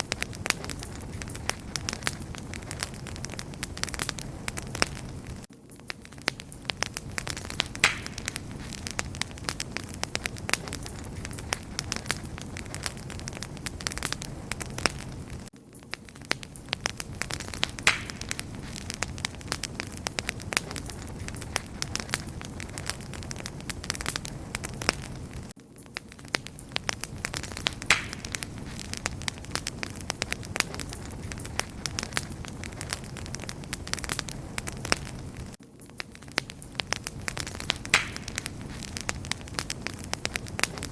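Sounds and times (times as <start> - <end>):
campfire pops and snaps: 0.0 - 40.9
low rumble of flames: 0.0 - 40.9.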